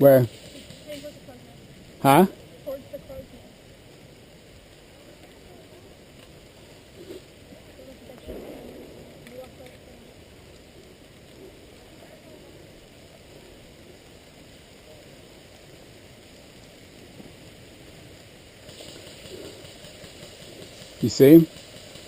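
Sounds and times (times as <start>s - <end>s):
rain falling: 0.0s - 22.0s
rustle: 0.0s - 22.0s.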